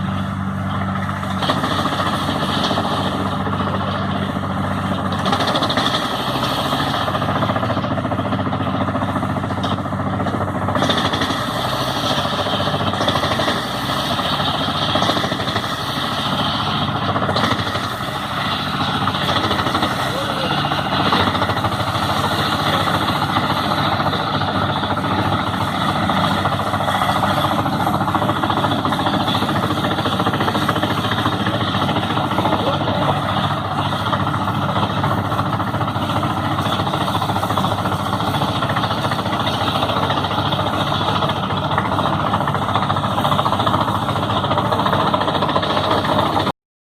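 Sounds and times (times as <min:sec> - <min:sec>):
wood chipper running: 0:00.0 - 0:46.5.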